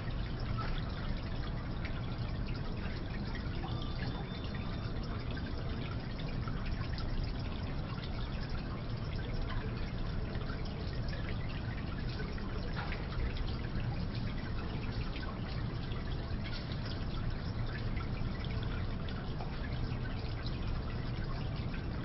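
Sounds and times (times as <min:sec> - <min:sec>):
fountain water trickling: 0:00.0 - 0:22.0
water drips: 0:00.0 - 0:22.0.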